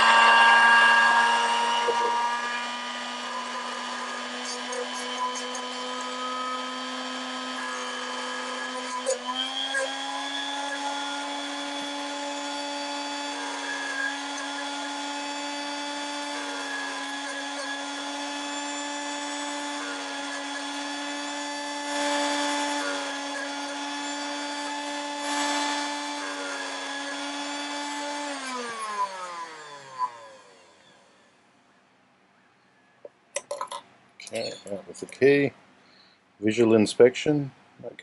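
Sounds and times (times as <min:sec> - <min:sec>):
electric motor whining: 0:00.0 - 0:31.2
motor winding down: 0:00.0 - 0:31.2.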